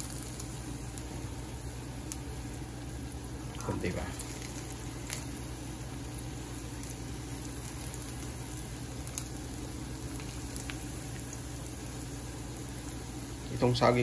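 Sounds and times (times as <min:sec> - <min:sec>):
fritters sizzling in oil: 0:00.0 - 0:14.0.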